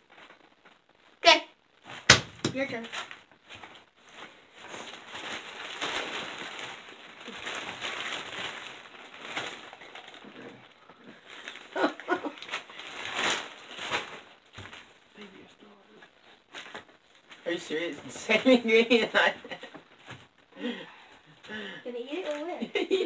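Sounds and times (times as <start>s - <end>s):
rustling and handling noises: 0.0s - 23.0s.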